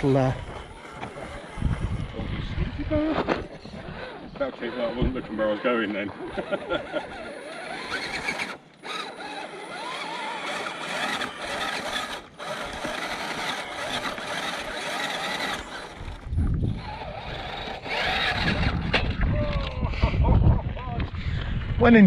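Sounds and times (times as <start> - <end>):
electric motor and gearbox whining: 0.0 - 19.8.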